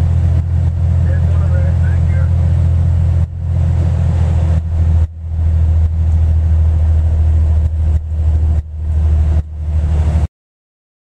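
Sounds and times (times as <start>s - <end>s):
car engine and road noise: 0.0s - 10.3s.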